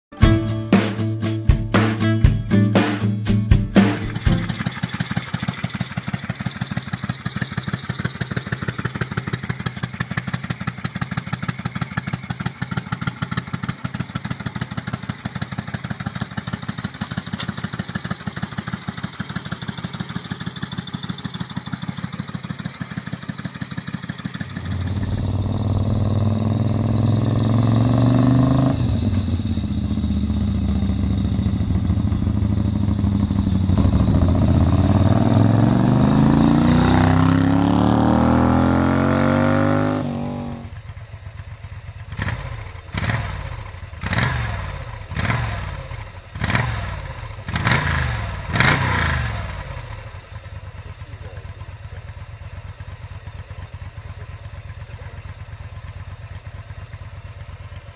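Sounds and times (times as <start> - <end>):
motorcycle engine idling: 3.6 - 28.0, 28.6 - 36.2, 39.9 - 57.9
motorcycle revving on road: 3.8 - 57.9.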